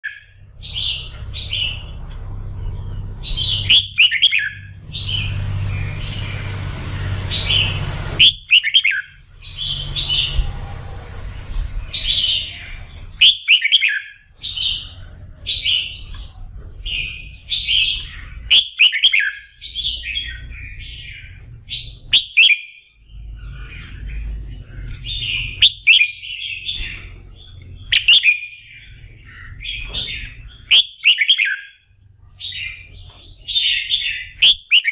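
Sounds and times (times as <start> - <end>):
low background rumble: 0.2 - 13.3, 14.1 - 18.6, 19.4 - 22.2, 23.0 - 30.8
bulbul singing whistled phrases: 3.2 - 6.5, 7.3 - 10.4, 12.0 - 16.2, 16.8 - 31.8, 32.4 - 34.9.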